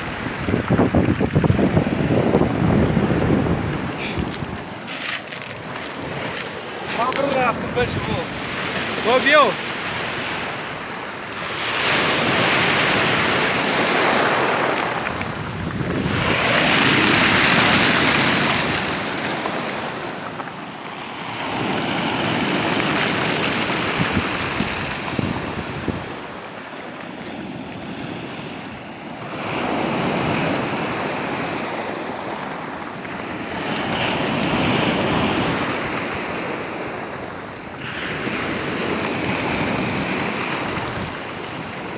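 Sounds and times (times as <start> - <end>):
sea waves washing ashore: 0.0 - 41.9
wind buffeting microphone: 0.0 - 41.9.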